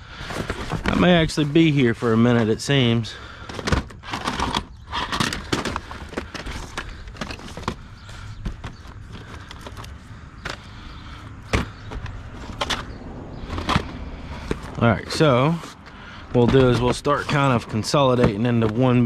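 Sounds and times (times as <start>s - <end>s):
junk knocking and clunking: 2.2s - 14.8s, 16.3s - 19.0s.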